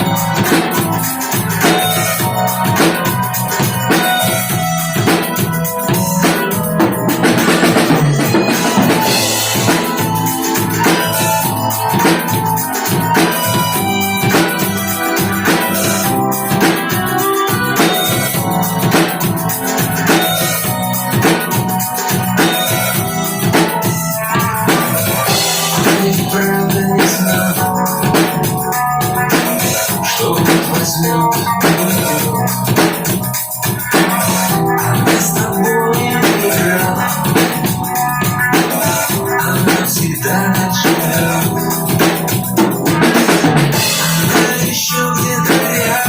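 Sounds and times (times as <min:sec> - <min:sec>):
drum kit beat: 0:00.0 - 0:46.0
keyboard chords: 0:00.0 - 0:46.0.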